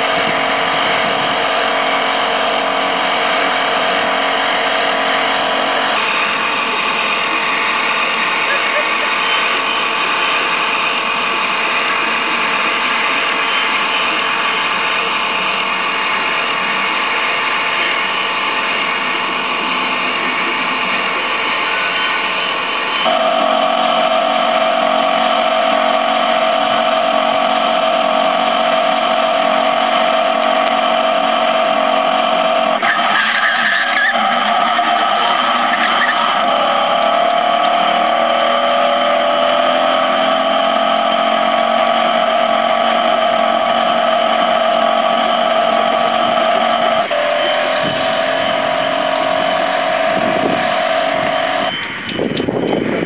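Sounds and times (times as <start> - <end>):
car engine whining at high revs: 0.0 - 53.0.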